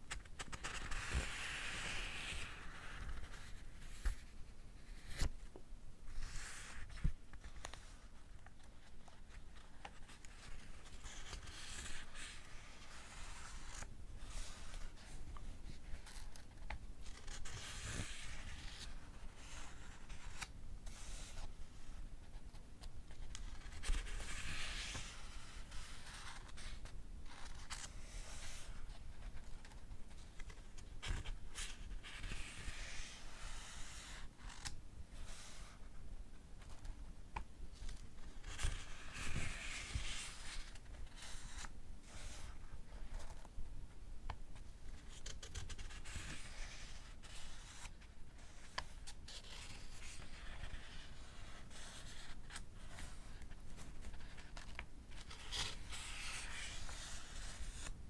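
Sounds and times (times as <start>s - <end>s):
book pages turning: 0.1s - 5.3s, 6.4s - 22.0s, 23.1s - 35.7s, 37.8s - 43.5s, 44.3s - 58.0s.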